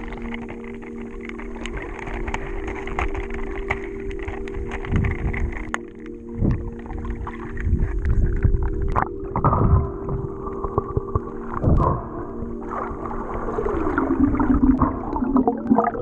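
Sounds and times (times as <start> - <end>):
sustained background music tones: 0.0 - 16.0
water sloshing and gurgling: 0.0 - 16.0
water splashes: 0.0 - 16.0.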